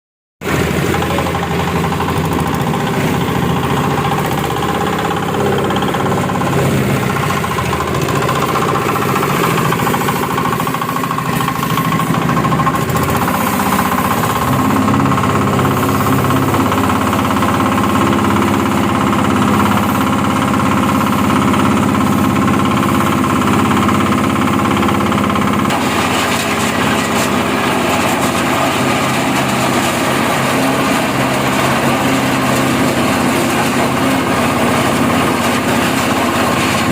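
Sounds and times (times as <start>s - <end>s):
machine motor drone: 0.4s - 36.9s.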